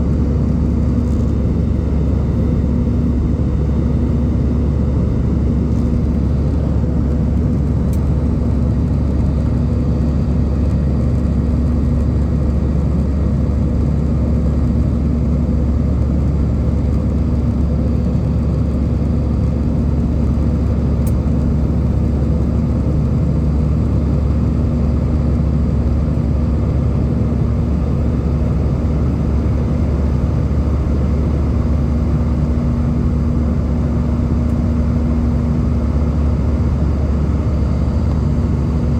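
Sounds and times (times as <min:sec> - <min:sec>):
constant hum: 0:00.0 - 0:38.9
jet engine cabin rumble: 0:00.0 - 0:38.9.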